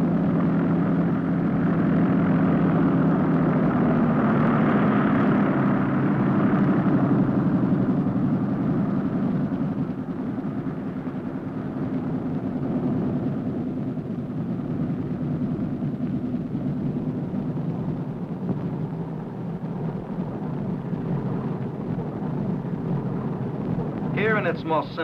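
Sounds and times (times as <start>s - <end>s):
muffled propeller plane engines droning: 0.0s - 25.0s.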